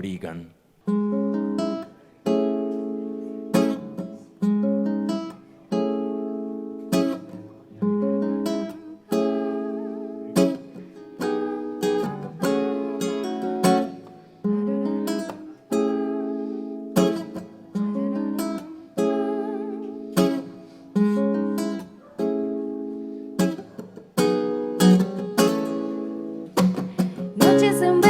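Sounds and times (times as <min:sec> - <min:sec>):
acoustic guitar strumming chords: 0:00.8 - 0:28.0.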